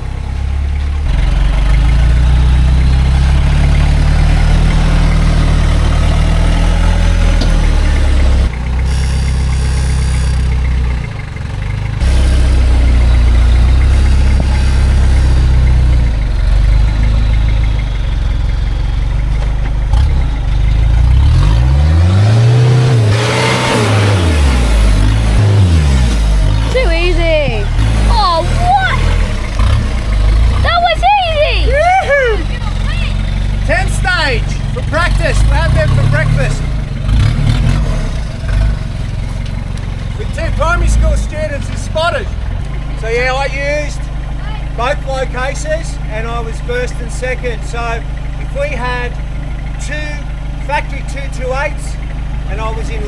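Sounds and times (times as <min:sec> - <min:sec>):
diesel engine working under load: 0:00.0 - 0:53.0
engine revving: 0:00.0 - 0:53.0.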